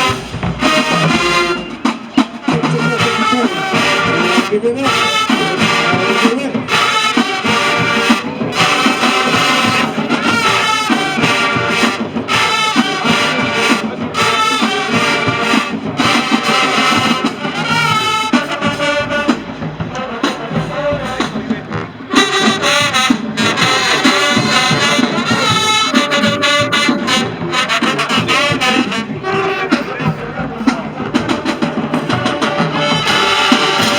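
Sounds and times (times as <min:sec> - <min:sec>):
marching band brass playing: 0:00.0 - 0:33.9.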